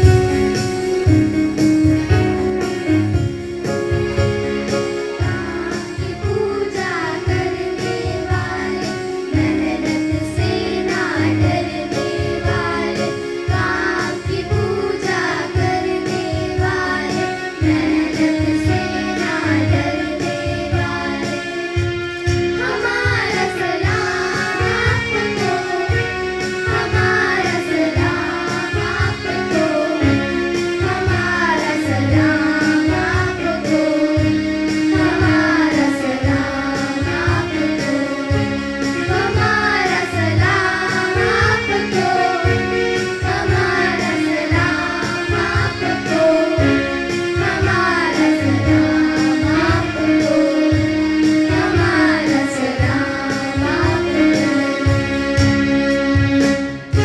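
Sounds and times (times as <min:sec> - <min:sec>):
instrumental accompaniment with beat: 0:00.0 - 0:57.0
children singing: 0:04.5 - 0:57.0.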